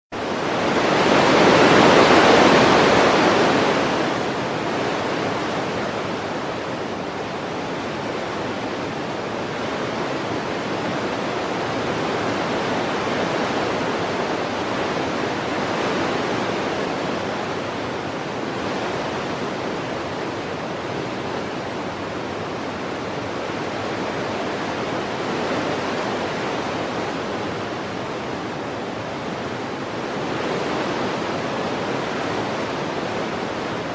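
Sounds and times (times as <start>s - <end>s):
wind blowing: 0.1s - 33.9s.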